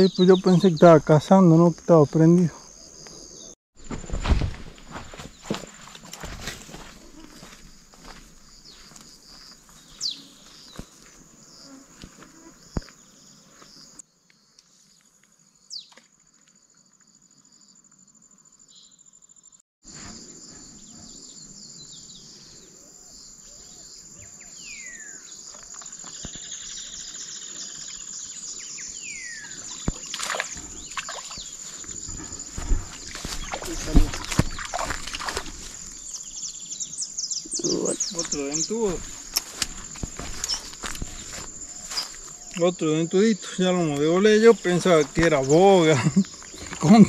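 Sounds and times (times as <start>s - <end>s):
insect chirring: 4.8s - 47.0s.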